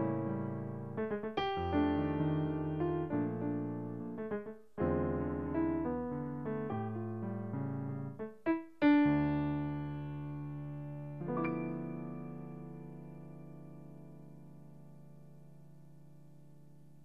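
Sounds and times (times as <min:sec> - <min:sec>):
electronic piano chords and melody: 0:00.0 - 0:17.0.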